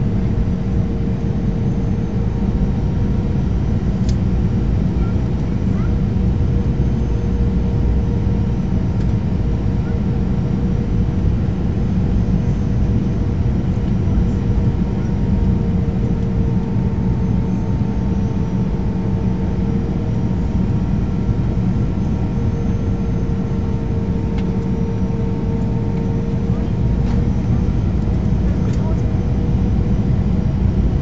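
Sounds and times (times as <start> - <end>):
airplane cabin engine rumble: 0.0 - 31.0
droning turbofan tone: 0.0 - 31.0.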